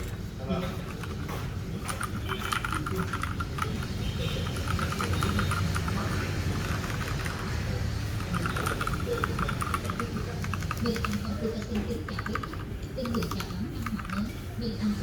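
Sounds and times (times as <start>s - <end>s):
mechanical keyboard typing: 0.0s - 14.4s.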